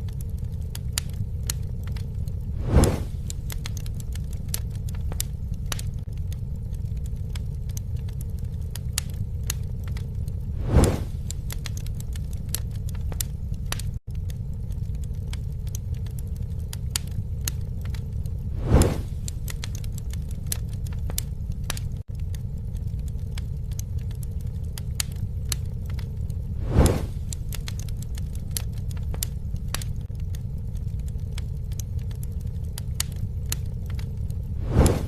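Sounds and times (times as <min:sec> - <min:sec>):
campfire crackling and popping: 0:00.0 - 0:35.0
low fire rumble: 0:00.0 - 0:35.0.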